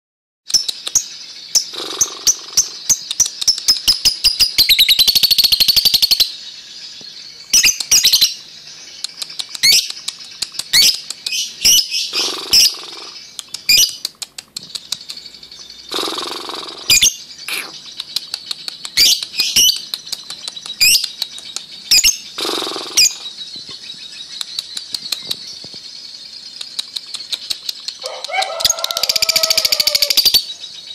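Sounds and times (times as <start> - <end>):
lovebird chirping chatter: 0.5 - 30.9.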